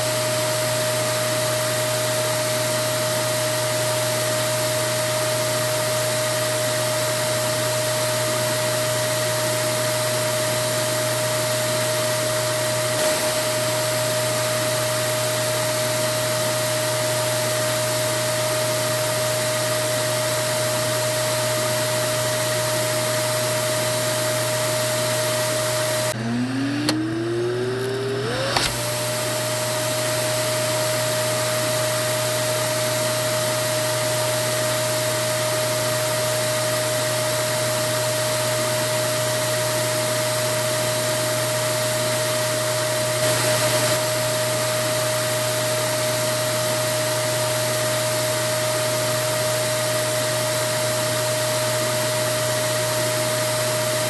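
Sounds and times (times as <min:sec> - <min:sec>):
vacuum cleaner motor whining: 0:00.0 - 0:54.0.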